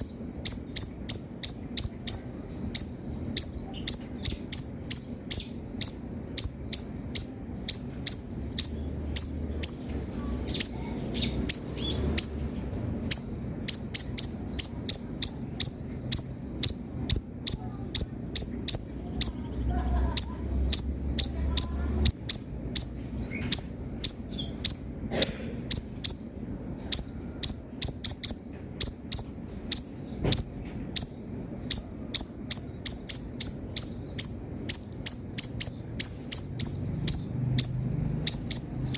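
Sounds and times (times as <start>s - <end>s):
bird chirping fast and high: 0.0s - 38.9s.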